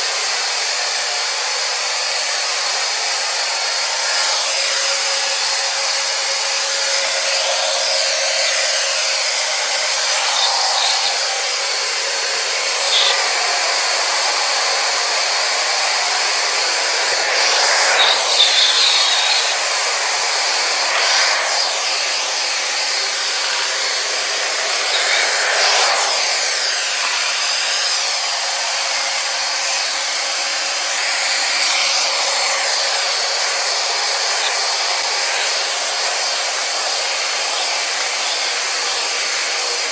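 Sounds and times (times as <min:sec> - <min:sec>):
robot vacuum fan whirring: 0:00.0 - 0:39.9.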